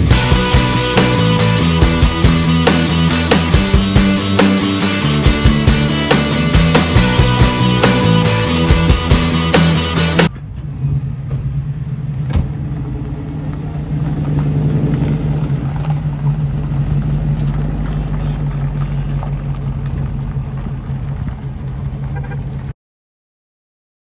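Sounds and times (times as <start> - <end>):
car engine deep exhaust: 0.0 - 22.7.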